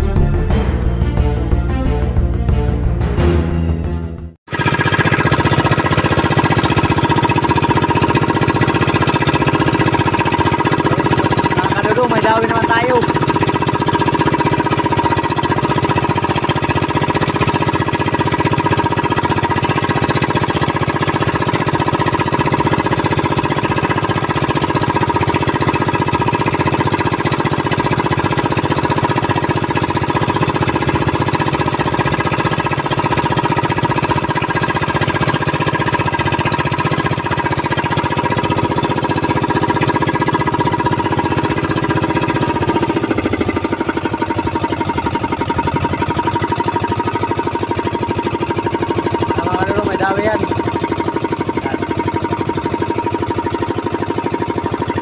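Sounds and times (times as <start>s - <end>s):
boat engine chugging: 4.5s - 55.0s.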